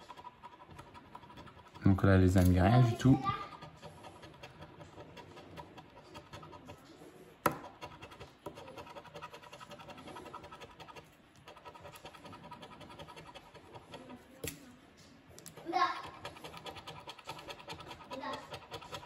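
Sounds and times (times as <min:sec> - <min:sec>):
coin scratching scratch card: 0:00.0 - 0:14.4, 0:15.4 - 0:19.0.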